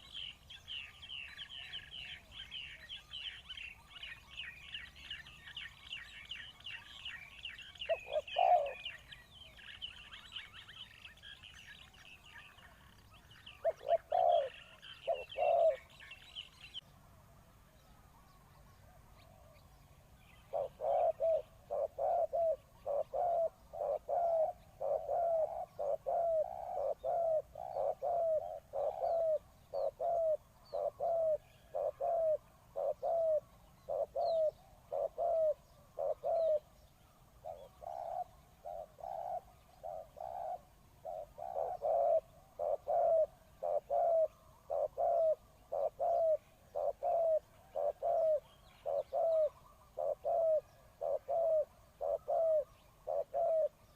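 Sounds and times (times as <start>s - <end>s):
dove cooing: 0.0s - 16.8s, 20.4s - 36.8s, 37.4s - 53.9s.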